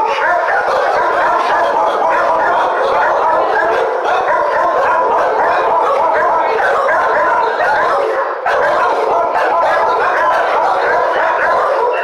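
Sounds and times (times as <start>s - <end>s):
many dogs barking: 0.0s - 12.0s.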